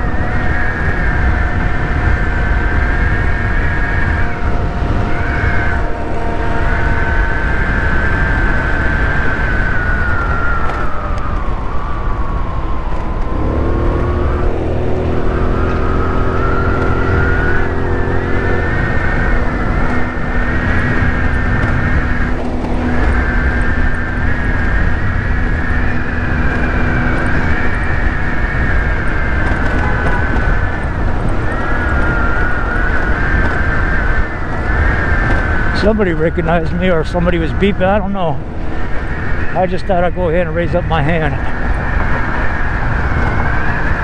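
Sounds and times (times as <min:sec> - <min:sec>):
high engine whine: 0:00.0 - 0:44.0
scooter engine rumble: 0:00.0 - 0:44.0.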